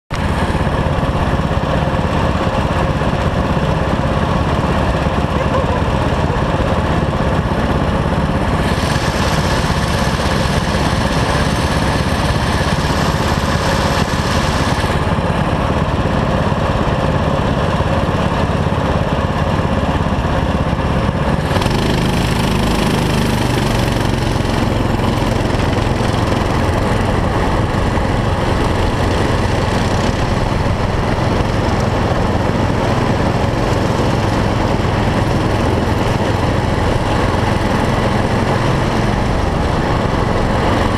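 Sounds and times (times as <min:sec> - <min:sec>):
kart engines idling: 0:00.1 - 0:40.9
kart engine pulling away: 0:00.2 - 0:40.9.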